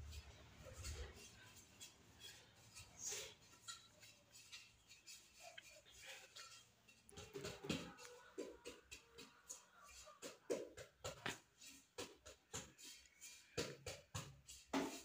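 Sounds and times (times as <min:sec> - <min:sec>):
hand rubbing inside metal pot: 0:00.0 - 0:15.0
scrape in metal pot: 0:00.0 - 0:15.0.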